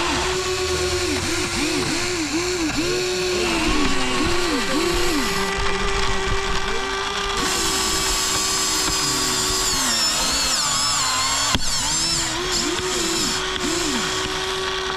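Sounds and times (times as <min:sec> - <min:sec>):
small electric motors whining: 0:00.0 - 0:14.9.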